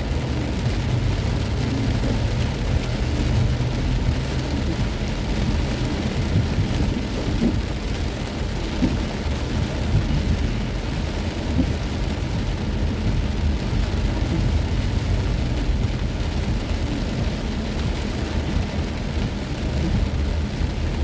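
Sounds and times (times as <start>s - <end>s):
car rumbling: 0.0s - 21.0s
heavy rain pelting a car: 0.0s - 21.0s
tyres on wet road: 0.0s - 21.0s.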